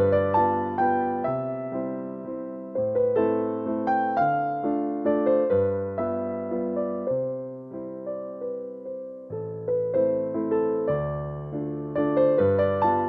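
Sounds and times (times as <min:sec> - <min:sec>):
gentle piano tune: 0:00.0 - 0:13.0.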